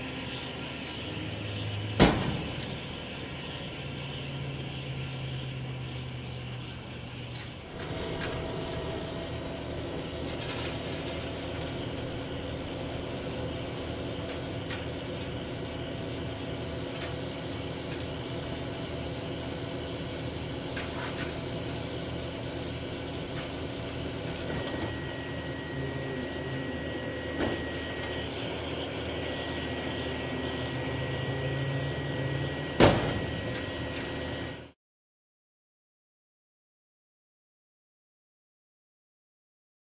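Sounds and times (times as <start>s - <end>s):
high steady whine: 0.0s - 34.8s
tractor and baler running: 0.0s - 34.8s.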